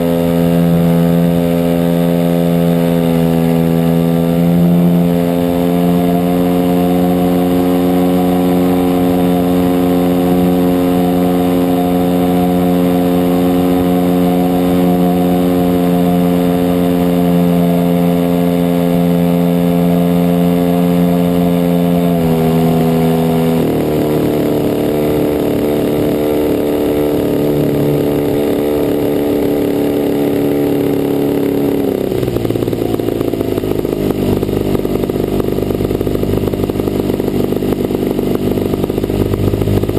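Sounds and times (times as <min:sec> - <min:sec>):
two-stroke model plane engine running: 0:00.0 - 0:39.9.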